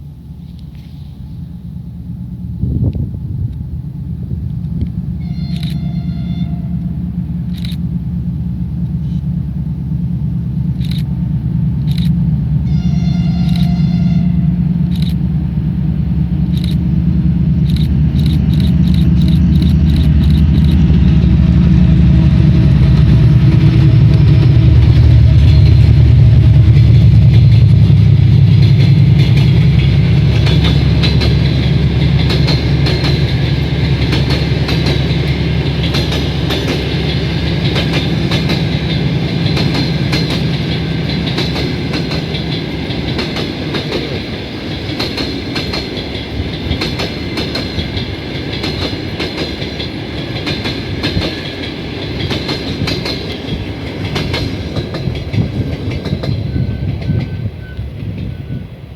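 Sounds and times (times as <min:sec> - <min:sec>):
diesel locomotive engines: 0:00.0 - 0:58.9
train wheels clickety-clack: 0:04.4 - 0:58.8.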